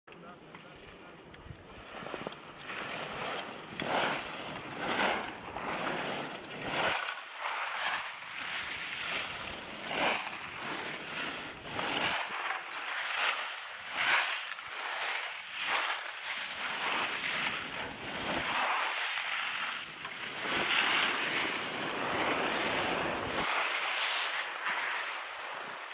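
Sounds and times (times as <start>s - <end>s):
skis swishing on snow: 1.8s - 25.9s.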